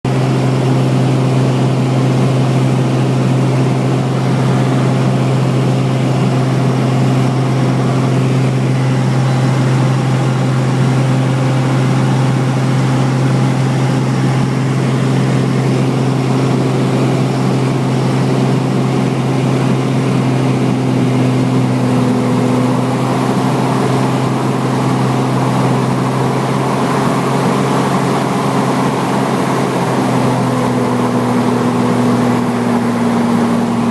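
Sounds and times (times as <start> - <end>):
light aircraft engine droning: 0.1 - 33.9.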